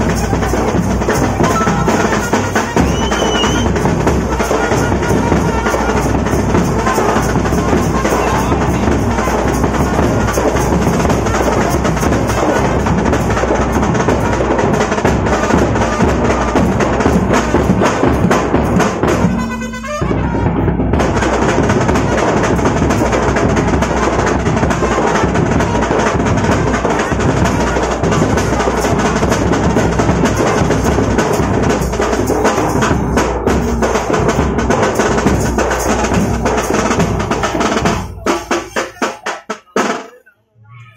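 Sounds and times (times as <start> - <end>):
fast loud group drumming: 0.0 - 40.3.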